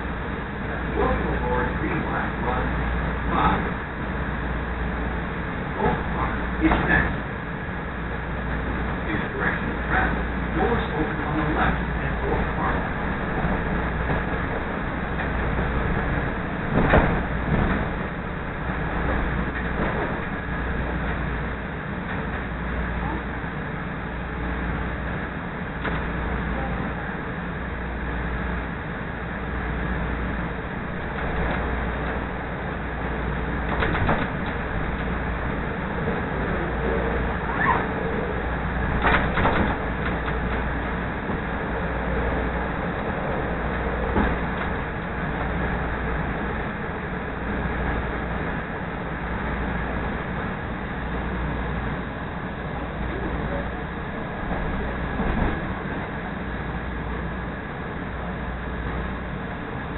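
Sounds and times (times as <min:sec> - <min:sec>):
train running on track: 0:00.0 - 0:59.9.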